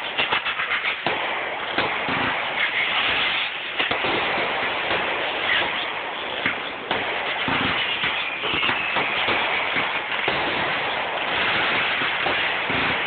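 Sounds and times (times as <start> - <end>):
fireworks crackling: 0.0 - 13.0
fireworks popping: 0.0 - 13.0.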